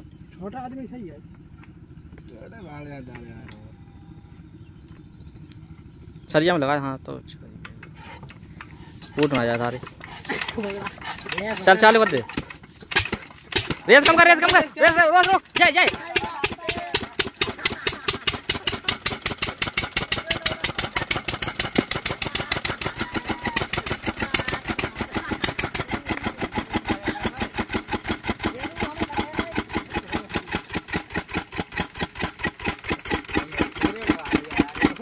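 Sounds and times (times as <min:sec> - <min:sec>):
diesel engine chugging: 0:00.0 - 0:35.0.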